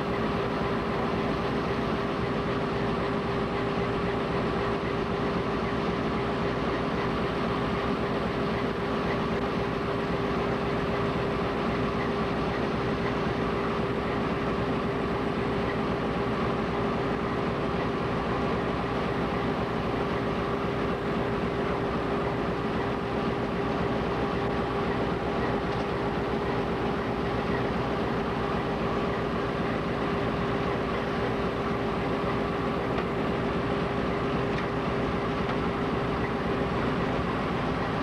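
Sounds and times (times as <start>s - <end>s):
constant generator whine: 0.0s - 38.0s
diesel locomotive engine rumbling: 0.0s - 38.0s.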